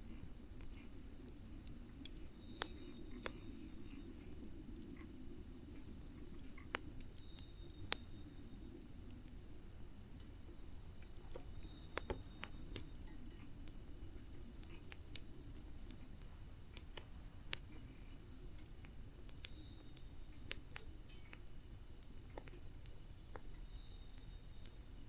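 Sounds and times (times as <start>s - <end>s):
campfire popping and snapping: 0.0s - 25.0s
low burning fire: 0.0s - 25.0s.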